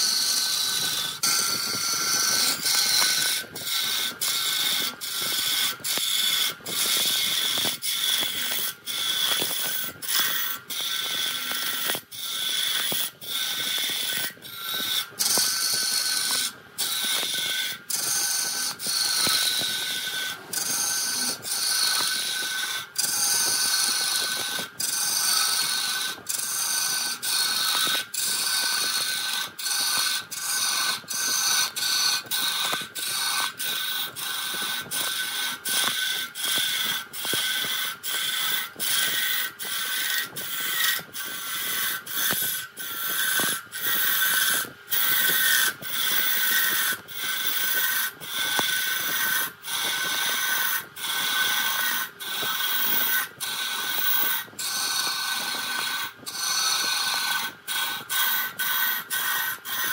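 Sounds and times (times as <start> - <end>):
turning tool cutting wood: 0.0 - 59.9
wood lathe whine: 0.0 - 59.9.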